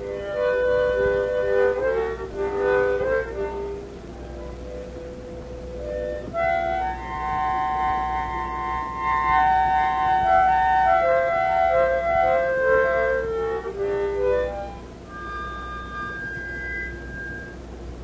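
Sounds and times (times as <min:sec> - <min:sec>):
harmonica playing chords: 0:00.0 - 0:18.0
steady low hum: 0:00.0 - 0:18.0.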